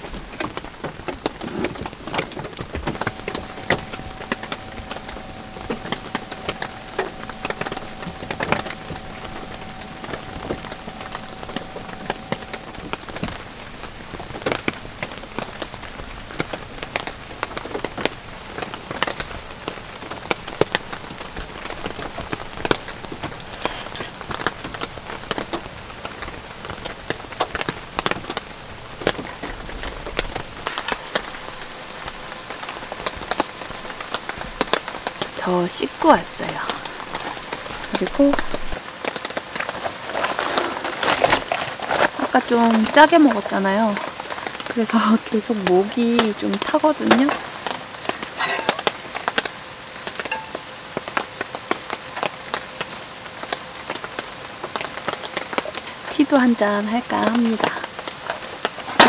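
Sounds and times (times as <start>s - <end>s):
raindrops tapping on a surface: 0.0s - 59.0s
steady rain falling: 0.0s - 59.0s.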